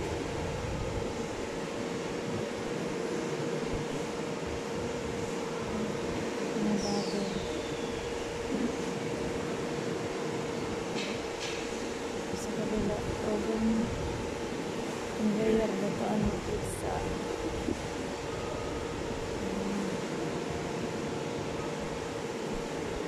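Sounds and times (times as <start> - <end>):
machinery and ventilation running: 0.0 - 23.0.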